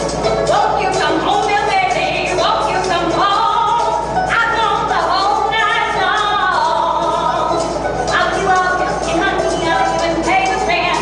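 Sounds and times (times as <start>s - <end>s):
musical accompaniment: 0.0s - 11.0s.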